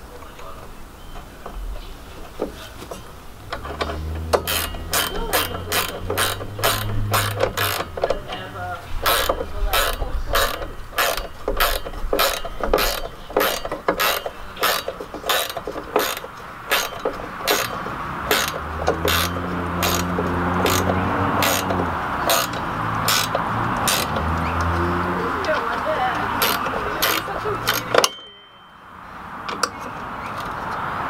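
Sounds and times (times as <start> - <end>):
ratchet wrench clicking: 3.4 - 28.3.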